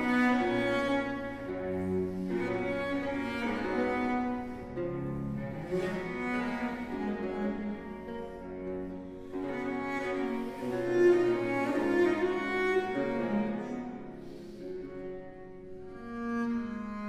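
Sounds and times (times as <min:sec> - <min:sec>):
cello melody: 0:00.0 - 0:17.0
harpsichord and strings continuo: 0:00.0 - 0:17.0.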